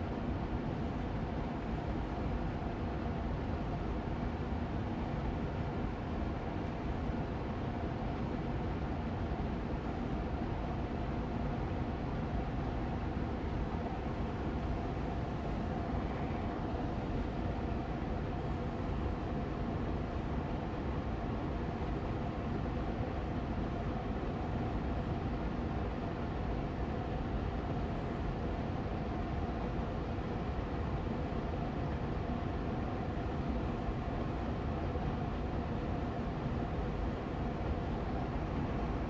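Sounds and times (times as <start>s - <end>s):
air purifier fan whooshing: 0.0s - 39.0s.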